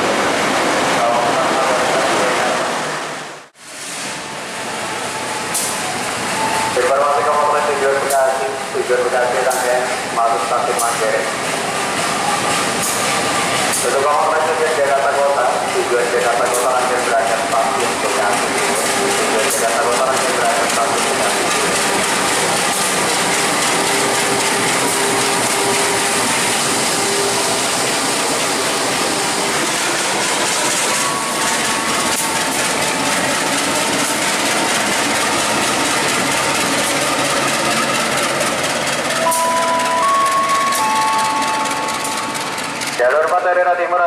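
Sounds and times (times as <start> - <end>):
locomotive engine running: 4.8 - 43.7
train wheels clattering on rails: 7.7 - 43.5.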